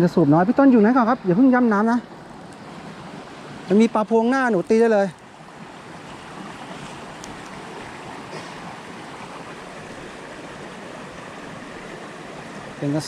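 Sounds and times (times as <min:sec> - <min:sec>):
stream water rushing over rocks: 0:00.0 - 0:13.0.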